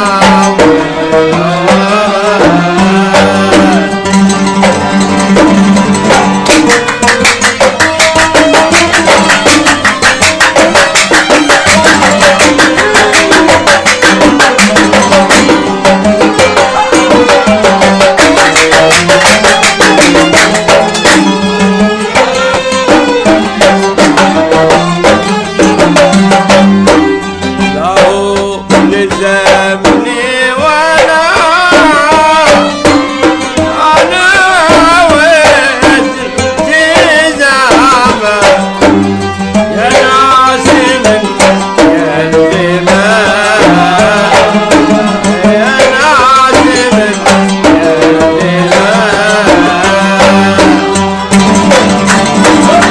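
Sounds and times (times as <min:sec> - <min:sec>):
hand drums: 0:00.0 - 0:52.9
qanun melody: 0:00.0 - 0:52.9
violins: 0:00.0 - 0:52.9.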